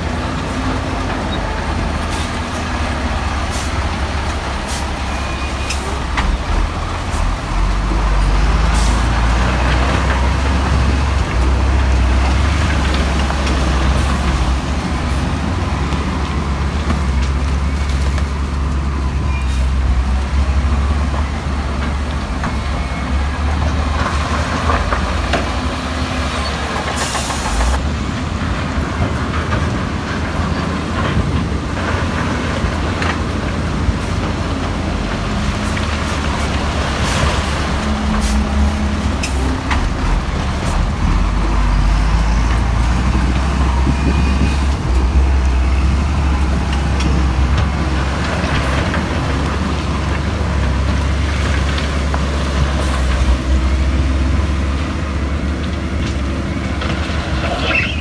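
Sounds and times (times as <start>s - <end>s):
diesel engine rumble: 0.0s - 58.0s.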